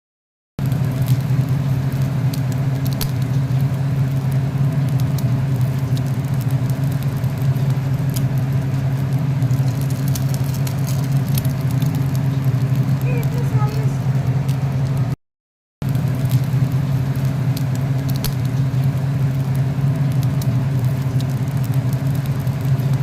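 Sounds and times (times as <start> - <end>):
oil crackling in frying pan: 0.6 - 15.2, 15.8 - 23.0
steady low hum: 0.6 - 15.2, 15.8 - 23.0.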